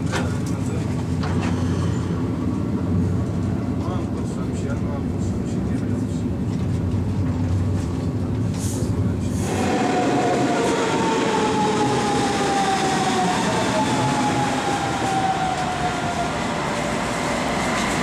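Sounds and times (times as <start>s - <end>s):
train low rumble inside carriage: 0.0s - 18.0s
train track and wheel noise: 0.0s - 18.0s.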